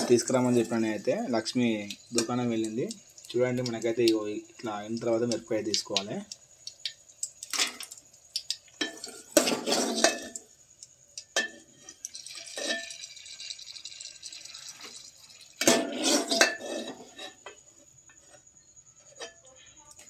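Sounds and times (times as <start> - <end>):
faint oil sizzle: 0.0 - 17.5.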